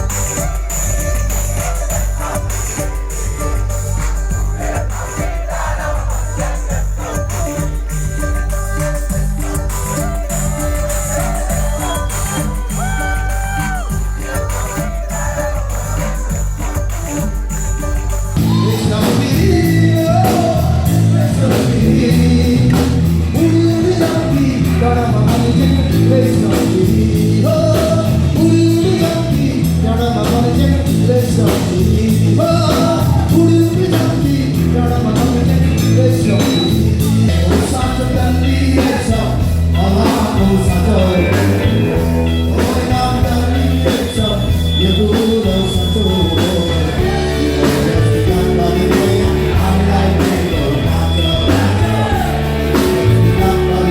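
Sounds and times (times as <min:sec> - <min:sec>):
blues-rock band playing: 0:00.0 - 0:53.9
person singing: 0:00.0 - 0:53.9.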